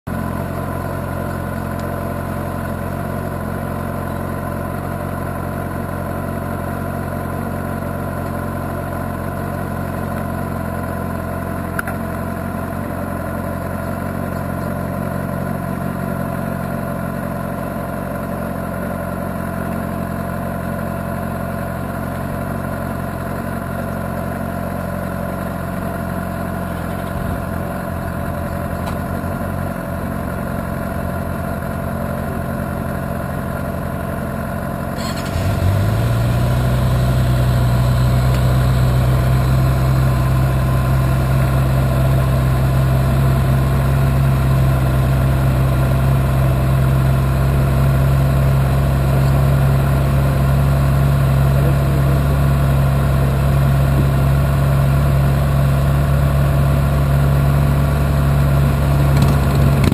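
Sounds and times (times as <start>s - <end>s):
motorcycle engine idling: 0.1s - 59.9s.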